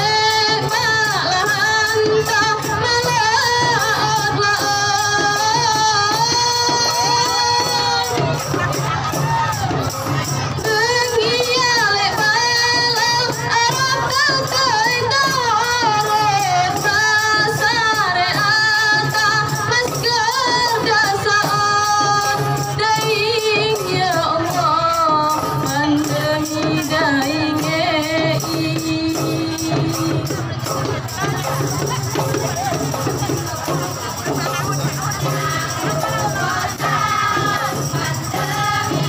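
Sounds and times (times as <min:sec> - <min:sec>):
frame drums: 0:00.0 - 0:39.0
women singing: 0:00.0 - 0:39.0.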